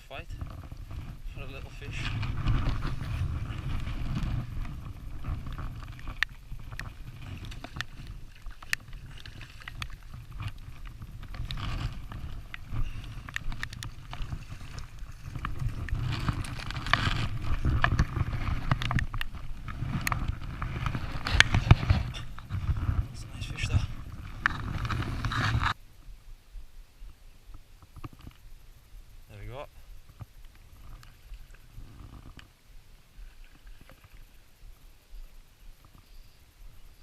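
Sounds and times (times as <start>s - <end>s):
wind buffeting microphone: 0.0s - 33.8s.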